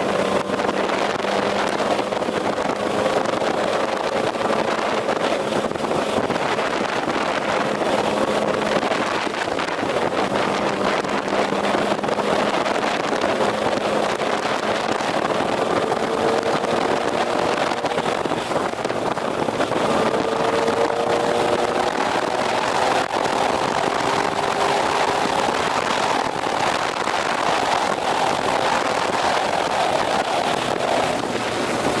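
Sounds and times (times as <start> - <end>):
motorcycle engine drone: 0.0 - 32.0
wind rush: 0.0 - 32.0.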